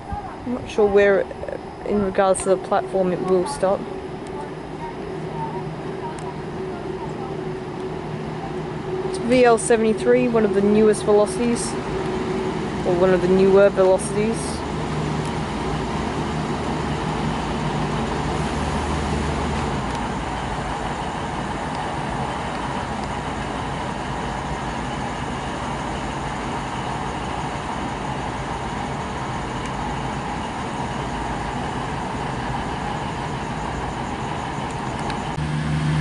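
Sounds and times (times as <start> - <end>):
diesel train engine drone: 0.0 - 36.0.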